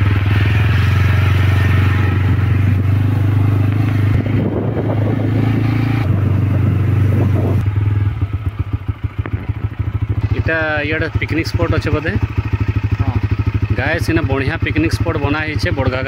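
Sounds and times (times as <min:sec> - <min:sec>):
motorcycle engine cruising: 0:00.0 - 0:16.0
wind and road noise: 0:00.0 - 0:16.0.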